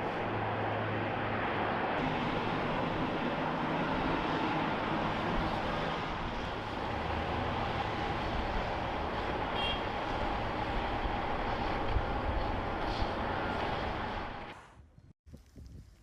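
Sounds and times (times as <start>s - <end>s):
vehicle engine and road noise: 0.0s - 15.6s.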